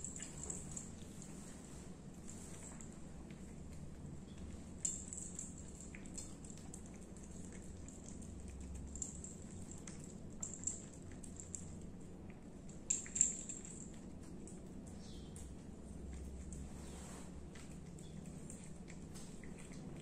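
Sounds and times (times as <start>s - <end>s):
cat licking and chewing: 0.0s - 20.0s.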